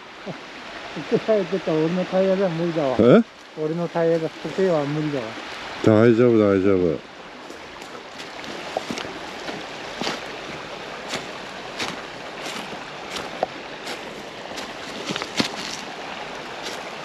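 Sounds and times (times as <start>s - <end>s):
river water rushing: 0.0s - 6.4s, 7.0s - 17.0s.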